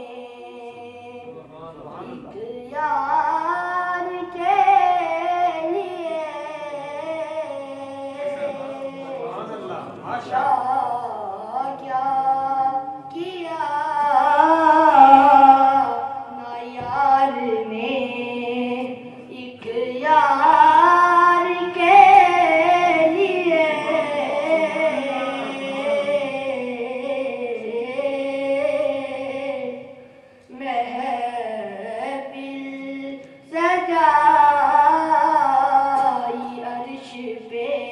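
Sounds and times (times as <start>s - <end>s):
boy singing unaccompanied: 0.0s - 37.9s.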